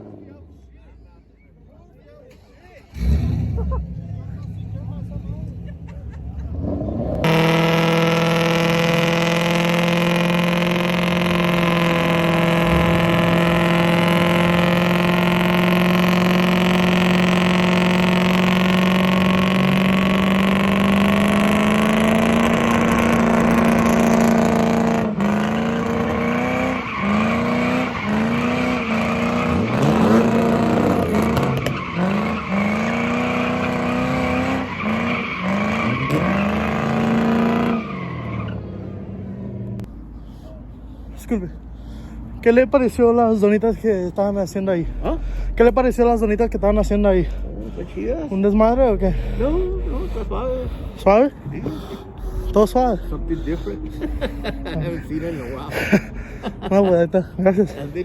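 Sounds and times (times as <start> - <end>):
car engine revving: 2.4 - 40.2, 43.4 - 58.0.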